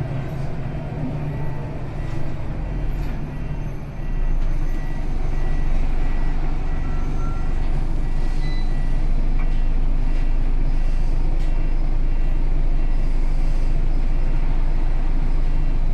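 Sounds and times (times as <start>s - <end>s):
bus engine droning: 0.0s - 15.9s.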